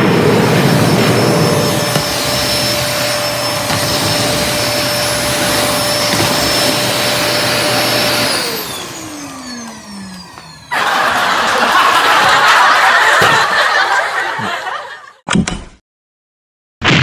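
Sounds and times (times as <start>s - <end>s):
vacuum cleaner motor: 0.0s - 14.3s.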